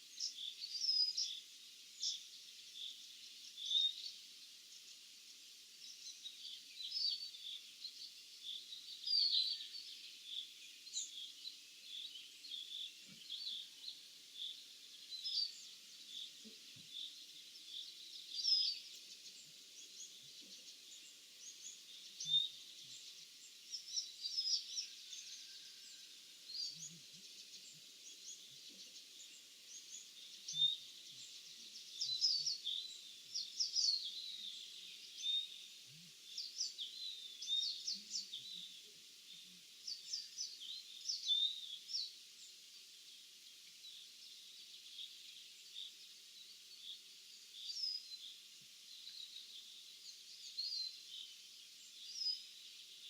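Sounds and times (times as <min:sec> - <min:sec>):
faint steady hiss: 0:00.0 - 0:53.0
songbirds chirping: 0:00.0 - 0:53.0.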